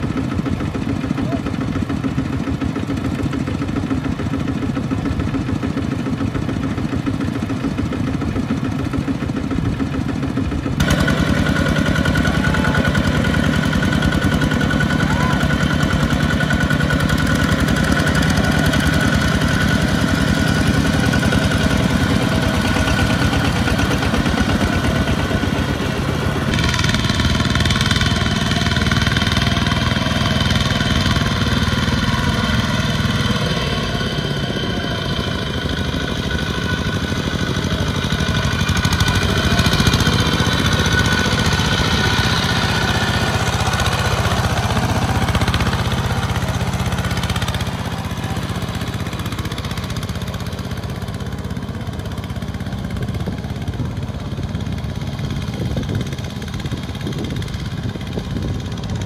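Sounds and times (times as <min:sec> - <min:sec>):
diesel engines chugging: 0:00.0 - 0:59.0.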